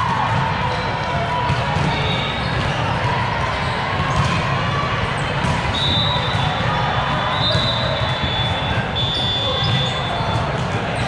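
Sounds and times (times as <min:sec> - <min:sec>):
balls thumping and bouncing: 0:00.0 - 0:11.0
murmur of voices: 0:00.0 - 0:11.0.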